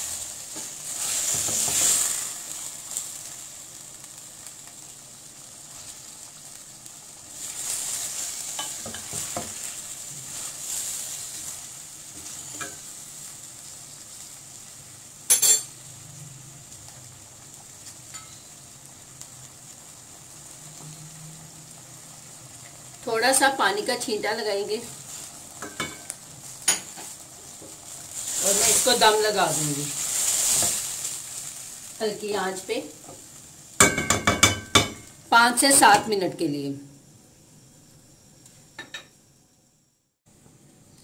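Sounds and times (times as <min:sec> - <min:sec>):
food sizzling in oil: 0:00.0 - 0:39.4.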